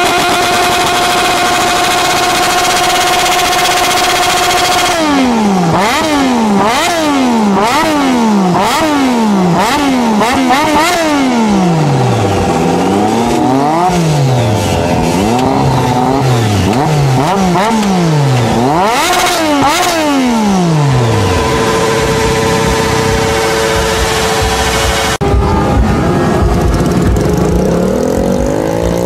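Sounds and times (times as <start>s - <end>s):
engine holding steady revs: 0.0s - 29.0s
motorcycle engines revving: 0.0s - 29.0s.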